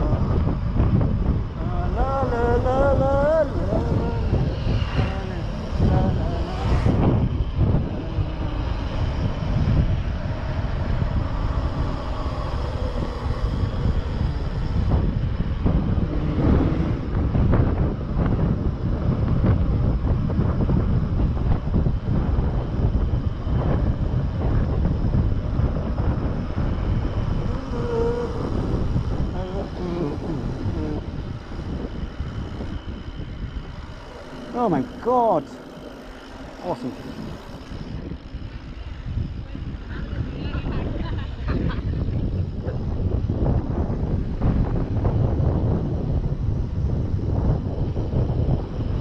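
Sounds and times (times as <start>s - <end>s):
bike tyre noise on asphalt: 0.0s - 49.0s
wind buffeting microphone: 0.0s - 49.0s.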